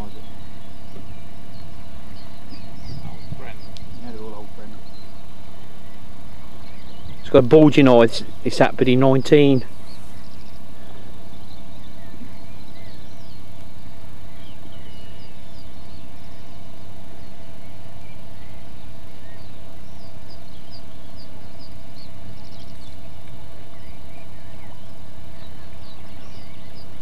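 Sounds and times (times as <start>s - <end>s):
high bird chirps: 0.0s - 27.0s
steady low hum: 0.0s - 27.0s.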